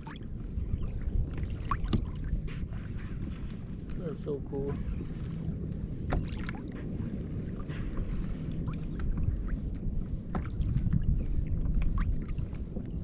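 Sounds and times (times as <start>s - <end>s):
water against kayak hull: 0.0s - 13.0s
wind rumble on microphone: 0.0s - 13.0s.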